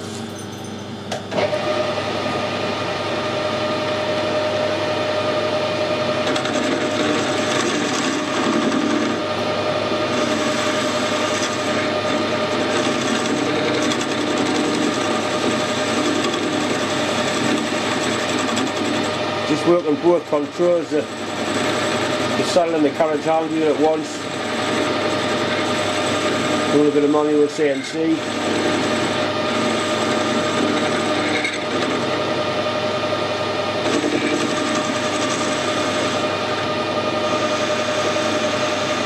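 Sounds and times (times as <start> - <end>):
metal lathe running: 0.0 - 39.0
turning tool cutting steel: 3.3 - 39.0.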